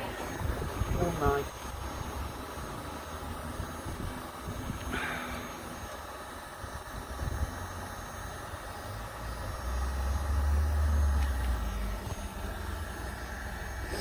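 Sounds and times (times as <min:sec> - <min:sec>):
heat gun blowing hiss: 0:00.0 - 0:14.0.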